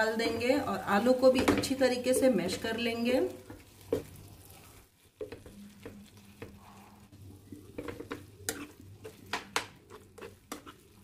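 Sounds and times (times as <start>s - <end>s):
light sizzle of cooking: 0.0s - 11.0s.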